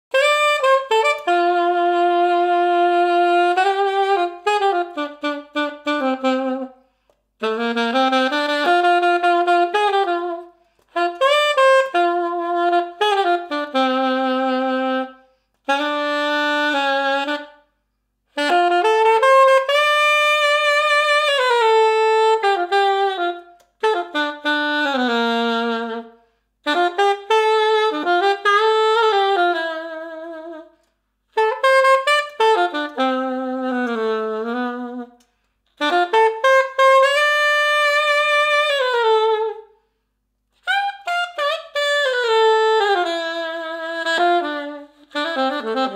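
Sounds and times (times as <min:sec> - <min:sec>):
saxophone slow jazz melody: 0:00.1 - 0:45.9.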